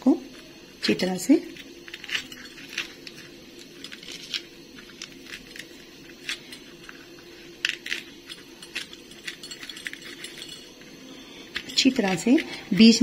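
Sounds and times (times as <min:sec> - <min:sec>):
metal utensil scraping chilli: 0:00.9 - 0:13.0.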